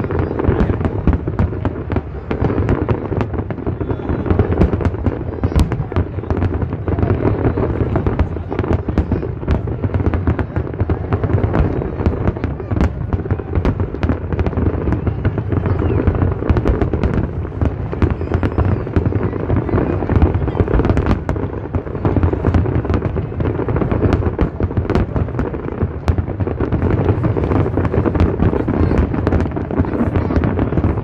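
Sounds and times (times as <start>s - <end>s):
fireworks crackling and popping: 0.0s - 31.0s
fireworks exploding with deep rumble: 0.0s - 31.0s.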